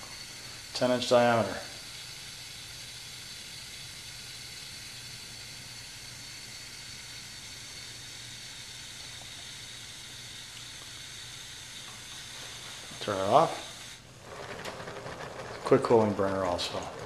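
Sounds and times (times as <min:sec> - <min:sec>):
hiss of gas burner: 0:00.0 - 0:14.5.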